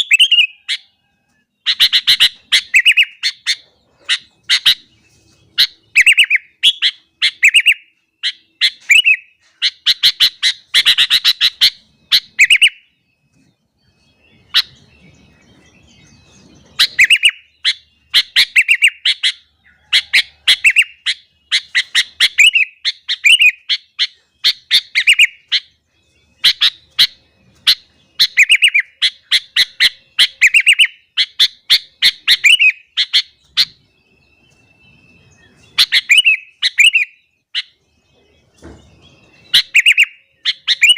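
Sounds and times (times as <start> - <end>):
bulbul chirping song: 0.0 - 40.9.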